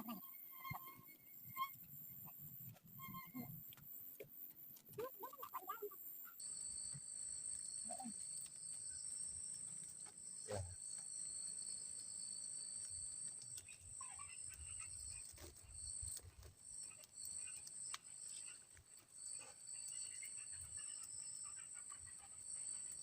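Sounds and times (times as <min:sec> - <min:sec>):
faint chirps: 0:00.0 - 0:23.0
insects droning: 0:00.0 - 0:23.0.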